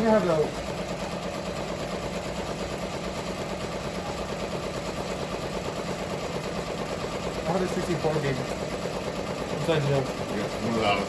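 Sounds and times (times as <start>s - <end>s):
embroidery machine stitching: 0.0s - 11.0s.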